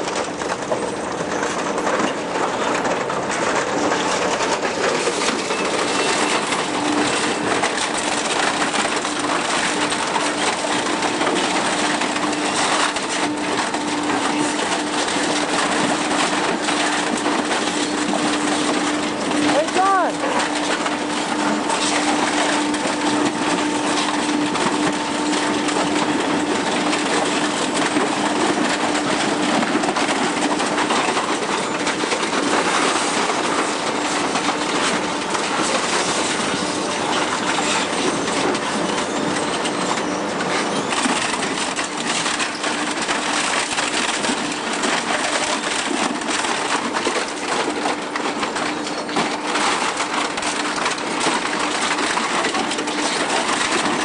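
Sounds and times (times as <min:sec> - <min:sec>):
plastic and metal crunching: 0:00.0 - 0:54.0
shredder machine humming: 0:00.0 - 0:54.0.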